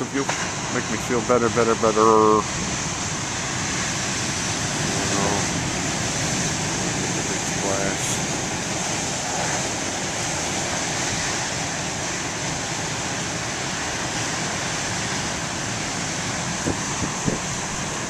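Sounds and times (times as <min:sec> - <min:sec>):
ocean waves breaking on shore: 0:00.0 - 0:18.0
wind buffeting microphone: 0:00.0 - 0:18.0.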